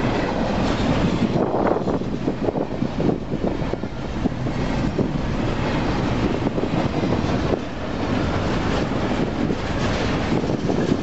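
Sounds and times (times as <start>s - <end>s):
train knocks: 0.0s - 11.0s
train wheels rumbling on rail: 0.0s - 11.0s
wind buffeting microphone: 0.0s - 11.0s.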